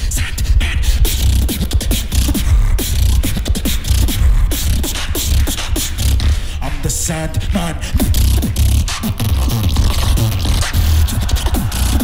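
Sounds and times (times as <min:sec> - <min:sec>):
beatboxing: 0:00.0 - 0:12.0.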